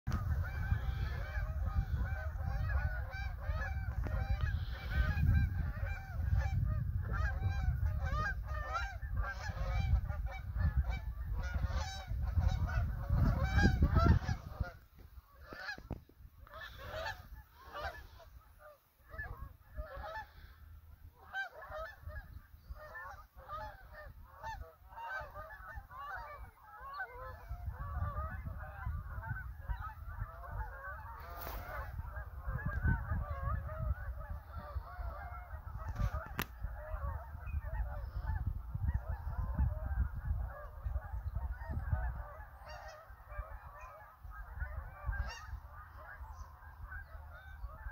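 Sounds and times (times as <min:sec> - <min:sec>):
geese honking: 0:00.1 - 0:47.9.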